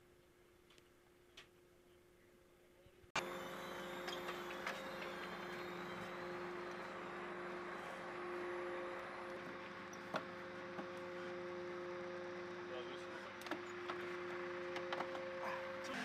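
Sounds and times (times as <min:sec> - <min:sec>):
machinery humming: 0:03.2 - 0:16.0.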